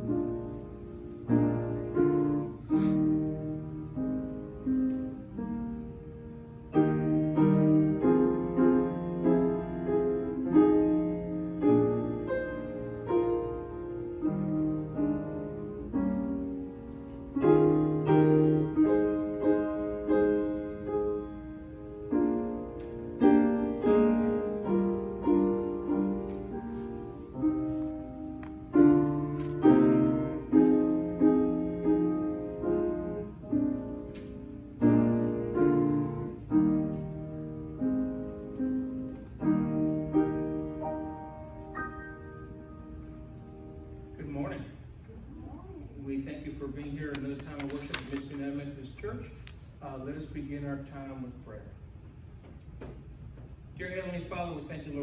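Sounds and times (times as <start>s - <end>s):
piano playing slow chords: 0.0s - 55.0s.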